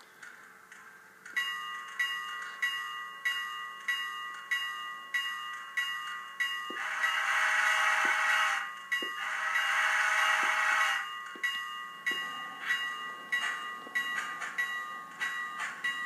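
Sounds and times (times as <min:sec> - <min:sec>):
locomotive bell ringing: 0:01.3 - 0:16.0.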